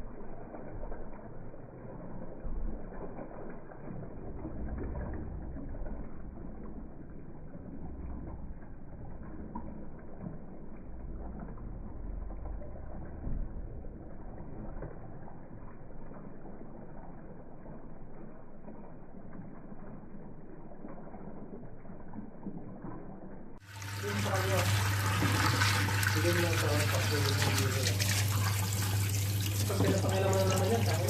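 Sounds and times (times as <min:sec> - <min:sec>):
slowed running water rumble: 0:00.0 - 0:31.0.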